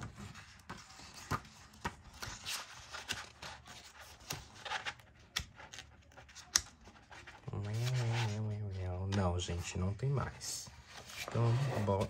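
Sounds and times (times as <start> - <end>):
paper pages rustling: 0.0 - 12.0.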